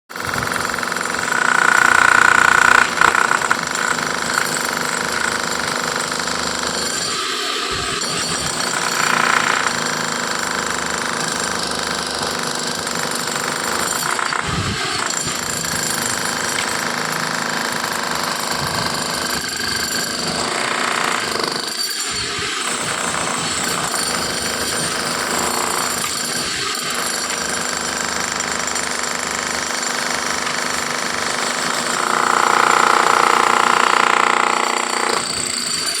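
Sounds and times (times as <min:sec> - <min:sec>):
machine cutting concrete: 0:00.1 - 0:36.0.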